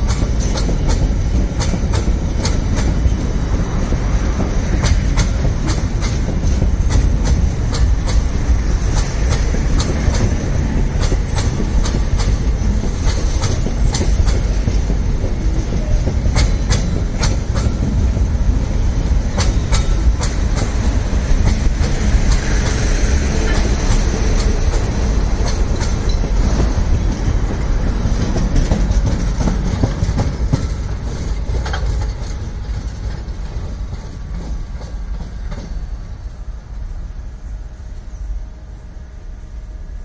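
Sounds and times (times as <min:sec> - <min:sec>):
wheels clacking over rail joints: 0:00.0 - 0:35.9
freight train rumbling past: 0:00.0 - 0:40.0.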